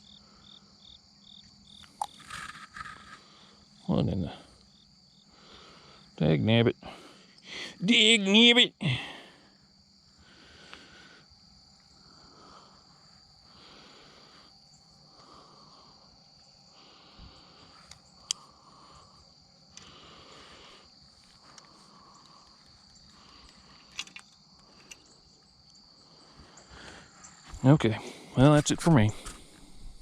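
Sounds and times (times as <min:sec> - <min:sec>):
crickets trilling: 0:00.0 - 0:30.0
insect rasping call: 0:00.0 - 0:30.0.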